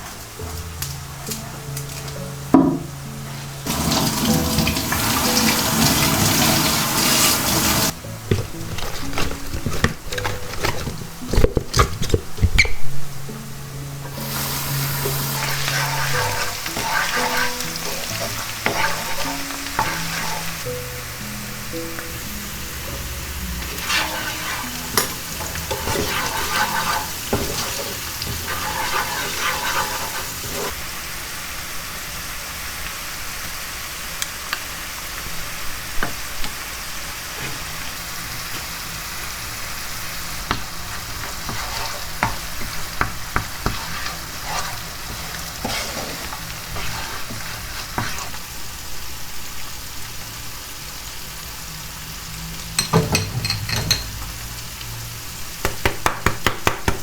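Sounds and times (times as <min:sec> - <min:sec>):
food sizzling in oil: 0:00.0 - 0:57.0.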